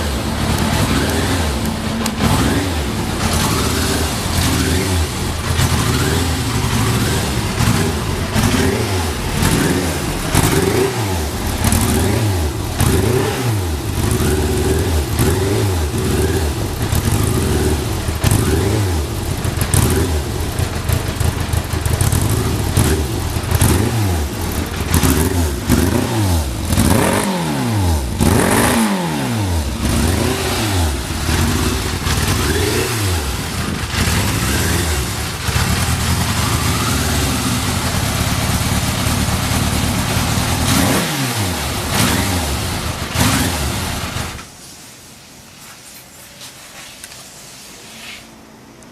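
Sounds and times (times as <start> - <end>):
motorcycle engine revving: 0.0 - 44.5.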